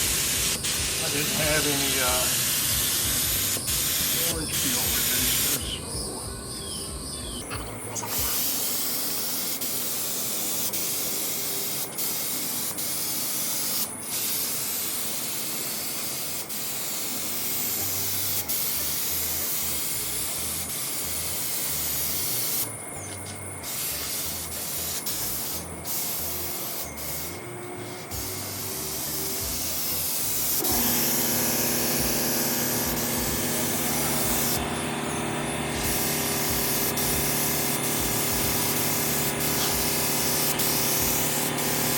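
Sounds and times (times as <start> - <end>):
spray gun hissing: 0.0 - 5.7, 8.0 - 22.7, 23.6 - 41.9.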